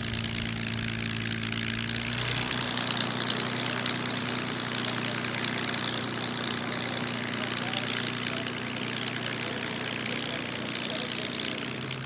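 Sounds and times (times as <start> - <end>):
propeller aircraft engine running: 0.0 - 12.0.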